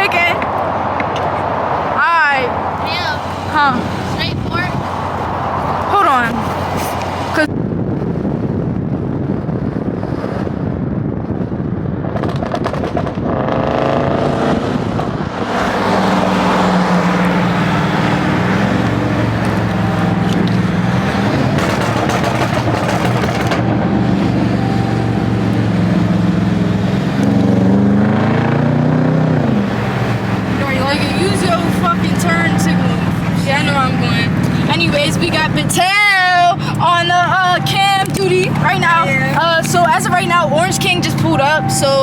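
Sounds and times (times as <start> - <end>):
car engine accelerating: 0.0 - 7.5, 12.2 - 42.0.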